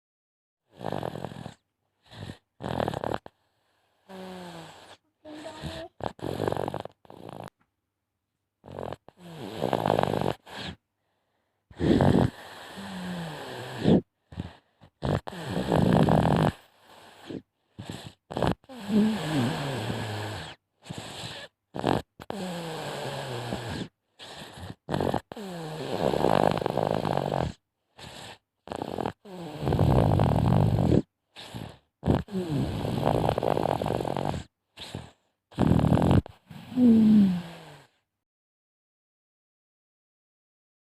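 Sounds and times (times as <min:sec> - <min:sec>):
baby snoring: 0:00.7 - 0:03.4, 0:04.1 - 0:07.6, 0:08.6 - 0:10.8, 0:11.7 - 0:38.0.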